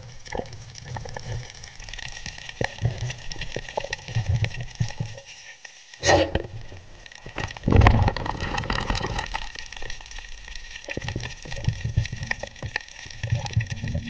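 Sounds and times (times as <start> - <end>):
underwater crackling clicks: 0.0 - 14.0.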